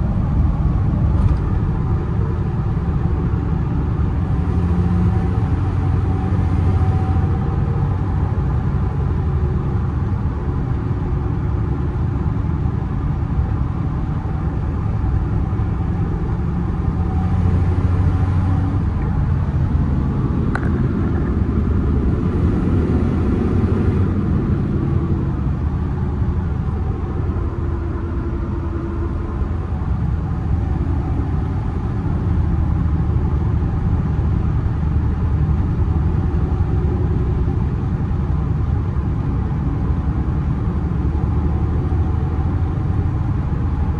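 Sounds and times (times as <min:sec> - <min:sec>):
pickup engine drone: 0:00.0 - 0:11.8, 0:12.9 - 0:43.9
road noise: 0:00.0 - 0:43.9.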